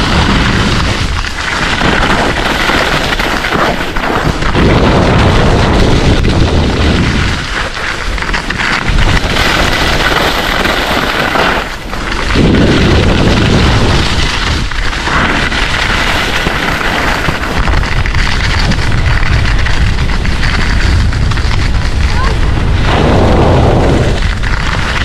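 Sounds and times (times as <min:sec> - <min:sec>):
skis scraping over snow: 0:00.0 - 0:25.0
wind buffeting microphone: 0:00.0 - 0:25.0.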